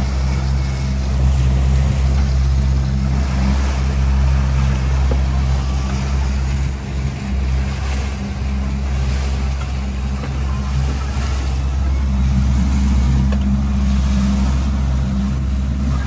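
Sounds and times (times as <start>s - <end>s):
boat motor idling: 0.0s - 16.0s
water noise: 0.0s - 16.0s.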